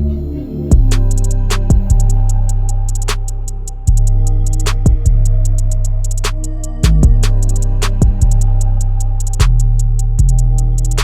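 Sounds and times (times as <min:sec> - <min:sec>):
deep bass notes: 0:00.0 - 0:11.0
hi-hat ticks: 0:00.7 - 0:11.0.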